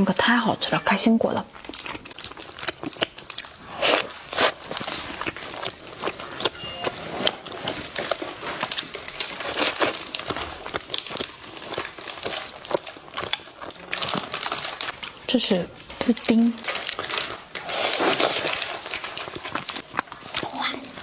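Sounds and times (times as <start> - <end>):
close-miked chewing: 0.6 - 21.0.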